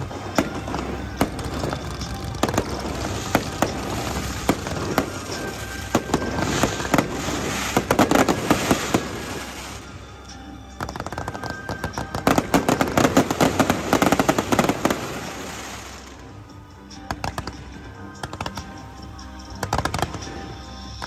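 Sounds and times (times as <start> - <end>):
background music: 0.0 - 21.0
fireworks crackling and popping: 0.0 - 21.0.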